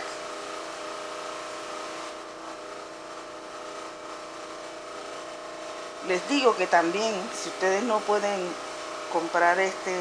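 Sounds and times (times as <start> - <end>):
small motor humming: 0.0 - 10.0.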